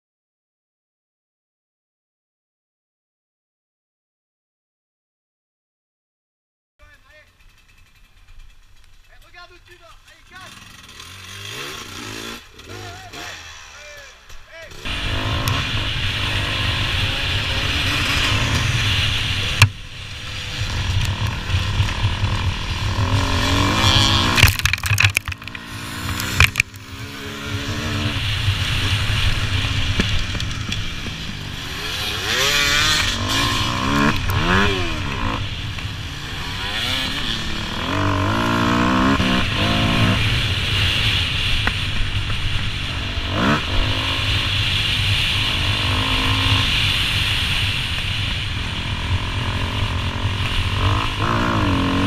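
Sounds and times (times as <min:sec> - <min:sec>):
dirt bike engine revving: 0:06.8 - 0:52.0.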